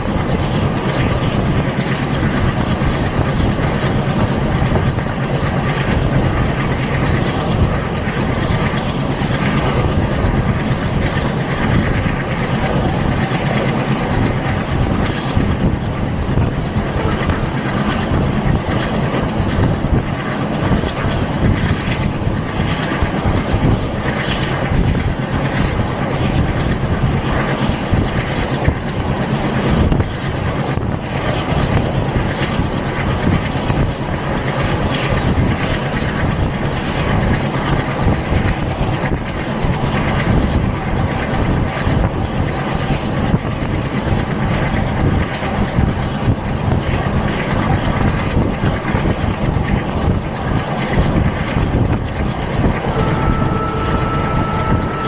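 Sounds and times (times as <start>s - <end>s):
diesel locomotive engine hum: 0.0s - 55.0s
wind and wheel noise on rails: 0.0s - 55.0s.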